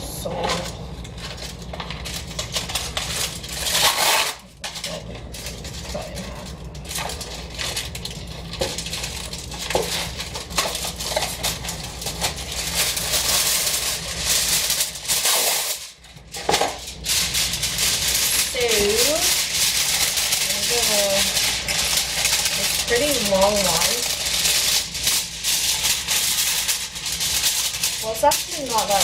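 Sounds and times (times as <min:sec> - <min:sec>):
aluminium foil crinkling and tearing: 0:00.0 - 0:29.0.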